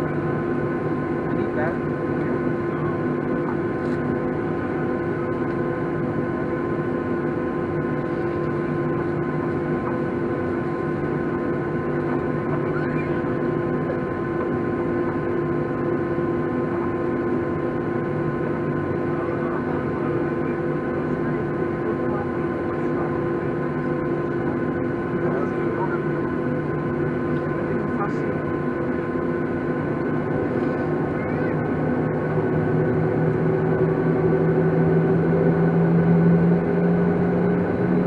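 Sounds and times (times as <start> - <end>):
airliner engines idling: 0.0 - 38.0.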